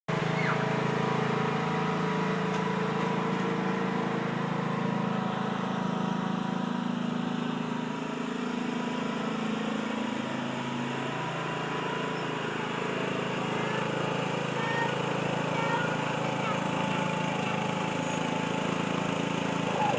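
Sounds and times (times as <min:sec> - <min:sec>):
riding lawn mower engine: 0:00.1 - 0:19.9.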